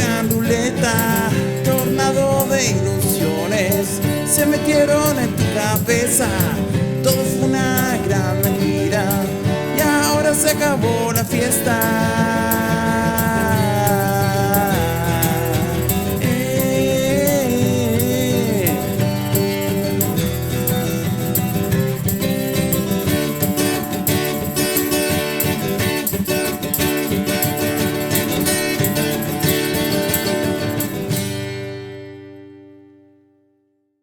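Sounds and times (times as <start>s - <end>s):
acoustic guitars strumming: 0.0s - 33.4s.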